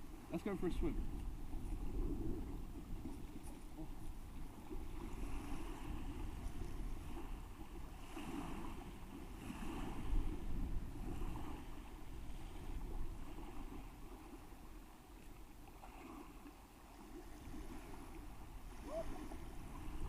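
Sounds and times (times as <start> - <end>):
wind on microphone: 0.0 - 20.0
water sloshing and splashing: 1.0 - 20.0.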